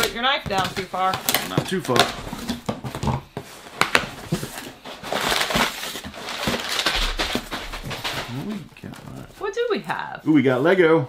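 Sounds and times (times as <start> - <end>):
packing paper rustling: 0.0 - 10.0.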